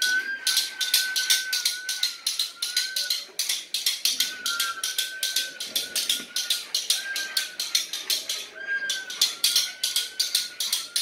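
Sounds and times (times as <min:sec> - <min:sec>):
thin wavering whistle: 0:00.0 - 0:11.0.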